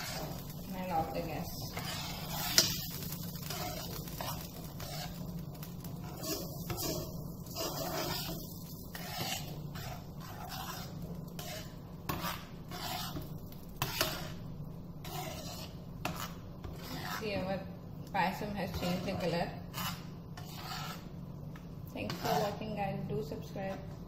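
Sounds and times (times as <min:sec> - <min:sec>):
spoon scraping and stirring: 0:00.0 - 0:17.6, 0:18.2 - 0:22.8
low steady hum: 0:00.0 - 0:24.0.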